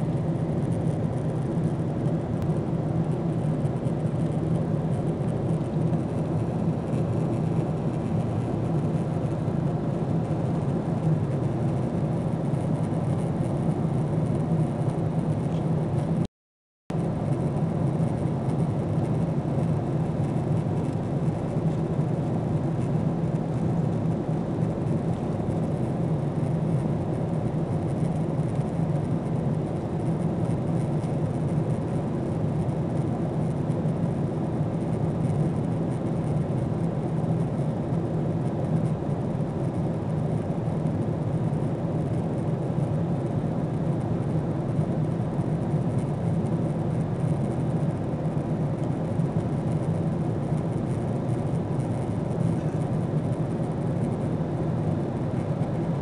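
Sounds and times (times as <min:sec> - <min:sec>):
airliner cabin drone: 0:00.0 - 0:16.3, 0:16.9 - 0:56.0.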